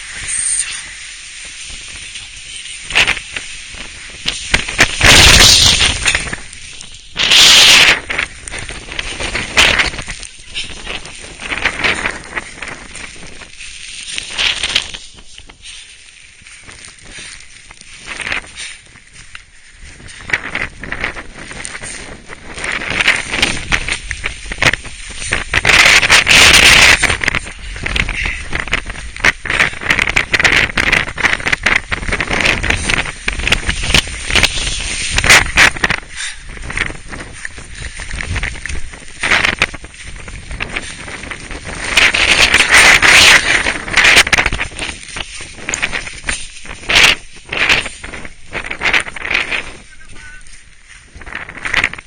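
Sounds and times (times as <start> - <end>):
rustling and crackling: 0.0 - 52.0
wind buffeting microphone: 0.0 - 52.0.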